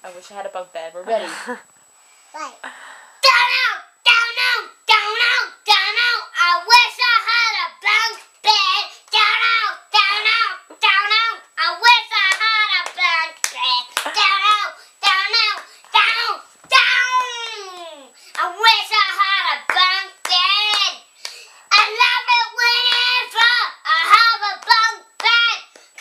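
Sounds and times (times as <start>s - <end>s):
boy singing unaccompanied: 3.2s - 26.0s.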